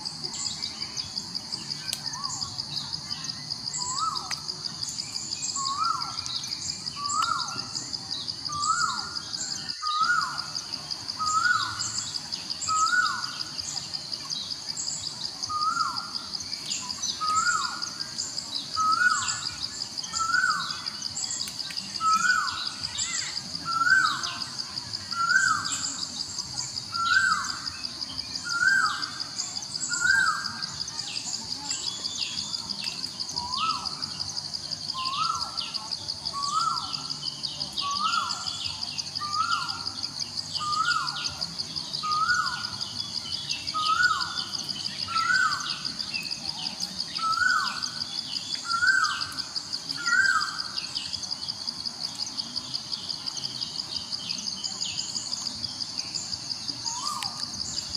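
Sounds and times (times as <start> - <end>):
high-pitched insect drone: 0.6 - 57.9.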